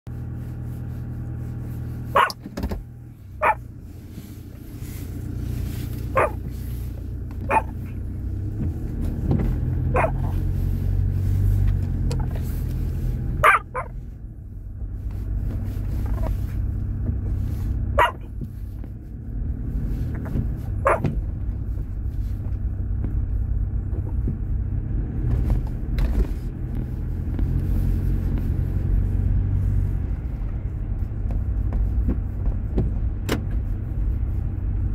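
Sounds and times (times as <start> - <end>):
road and engine rumble in car: 0.0 - 34.9.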